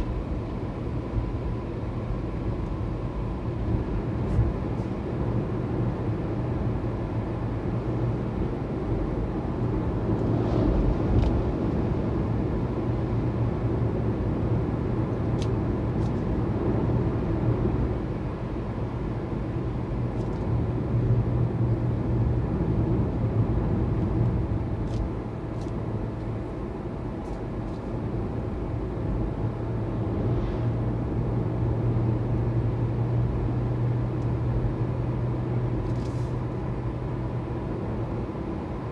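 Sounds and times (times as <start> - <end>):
low road hum: 0.0 - 38.9
tyre and wind noise in car: 0.0 - 38.9.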